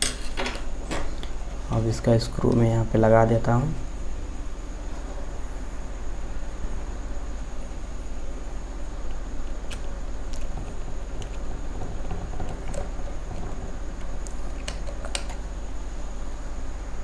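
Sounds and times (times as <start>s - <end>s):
faint high whine: 0.0s - 17.0s
steady hum and hiss: 0.0s - 17.0s.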